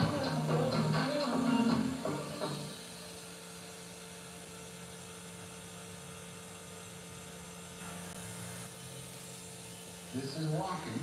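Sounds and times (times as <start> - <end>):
tattoo machine humming: 0.0 - 11.0.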